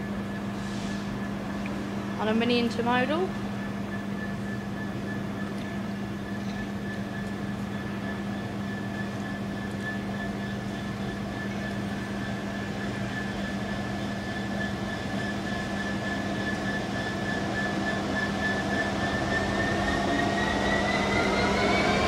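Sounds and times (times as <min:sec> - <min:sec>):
locomotive engine low hum: 0:00.0 - 0:22.0
locomotive high whine: 0:00.0 - 0:22.0.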